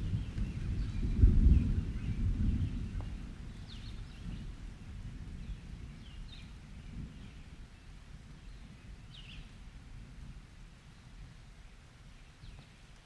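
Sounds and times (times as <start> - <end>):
songbirds chirping: 0.0 - 4.6, 5.3 - 9.7, 10.9 - 13.0
distant thunder rumbling: 0.0 - 10.5.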